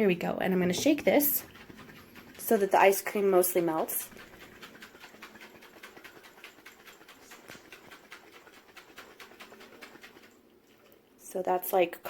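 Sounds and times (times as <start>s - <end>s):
liquid sloshing in shaken jar: 0.6s - 11.2s.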